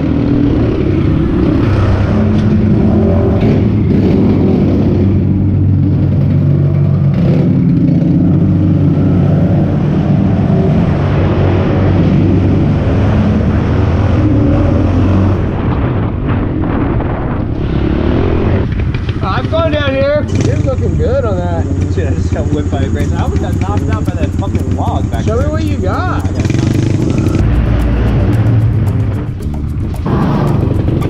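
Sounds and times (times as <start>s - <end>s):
pit bike engine revving: 0.0s - 15.7s, 17.5s - 31.0s.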